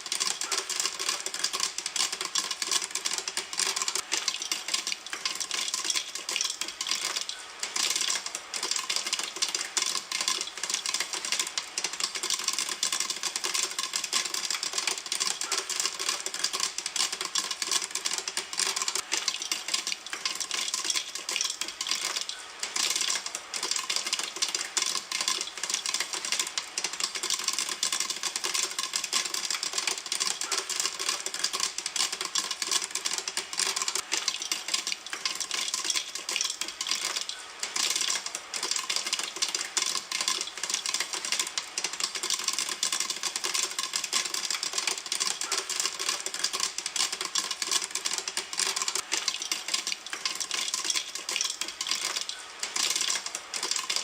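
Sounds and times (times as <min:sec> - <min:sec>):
popcorn popping in a pan: 0:00.0 - 0:54.0.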